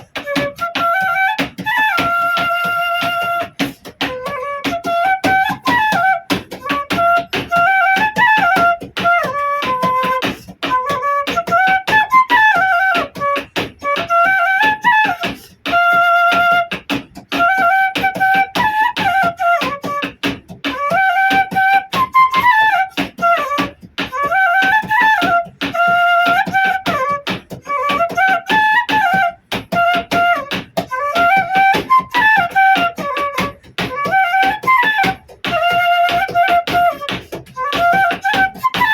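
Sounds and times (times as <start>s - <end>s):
bamboo flute folk melody: 0.0s - 38.9s.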